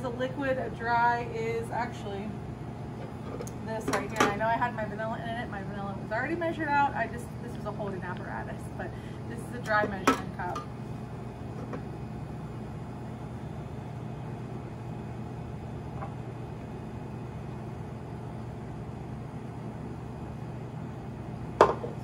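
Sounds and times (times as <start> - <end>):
kitchen machinery hum: 0.0 - 22.0.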